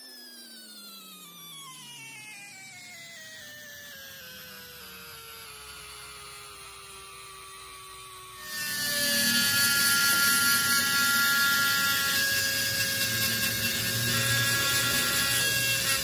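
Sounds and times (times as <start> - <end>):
machine high whine and grinding: 0.0 - 16.0
machine whine slowing down: 0.0 - 16.0.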